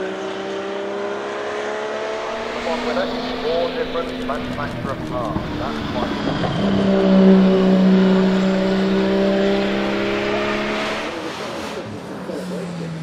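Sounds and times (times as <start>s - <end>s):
race car engine passing by: 0.0s - 13.0s.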